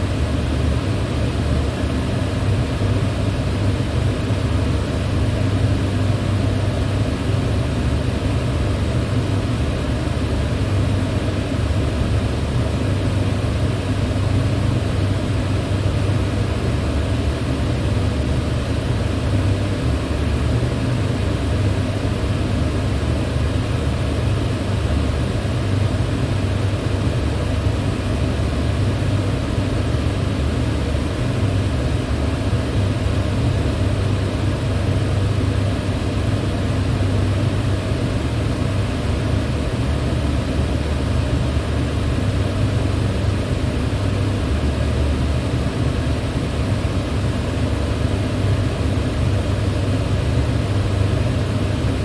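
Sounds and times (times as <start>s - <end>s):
electric fan running: 0.0s - 52.0s.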